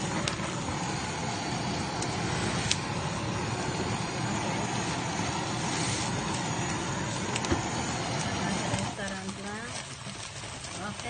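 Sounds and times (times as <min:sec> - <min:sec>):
gas torch flame blowing: 0:00.0 - 0:11.0.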